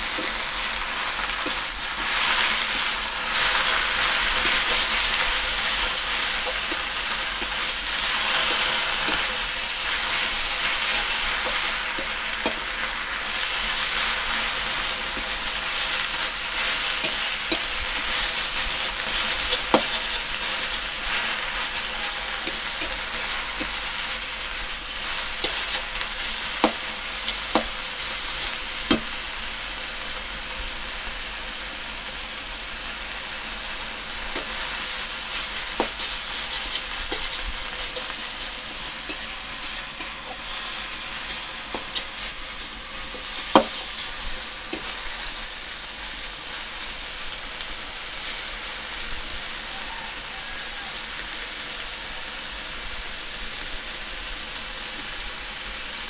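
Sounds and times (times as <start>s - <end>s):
greens sizzling in a pan: 0.0s - 56.0s.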